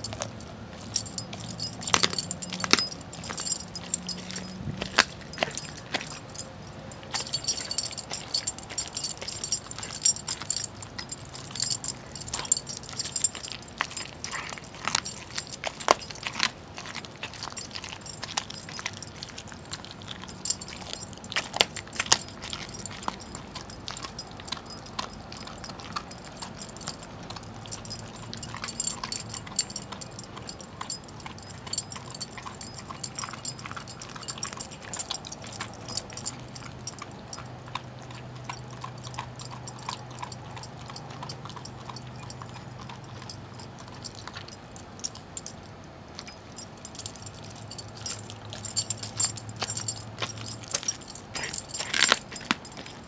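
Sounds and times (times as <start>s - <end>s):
collar tag jingling: 0.0s - 53.0s
dog crunching bone: 0.0s - 53.0s.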